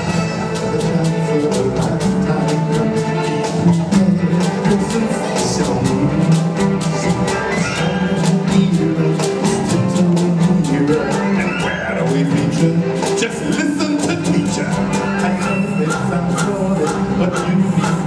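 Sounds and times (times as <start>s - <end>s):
steady percussion beat: 0.0s - 18.0s.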